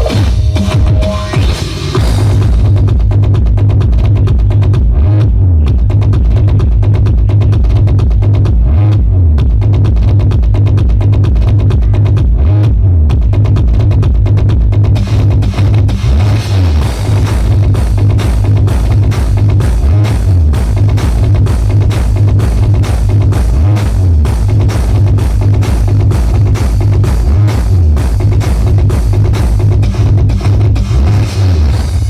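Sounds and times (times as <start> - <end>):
loud bass-heavy music with drum beat: 0.0 - 32.0.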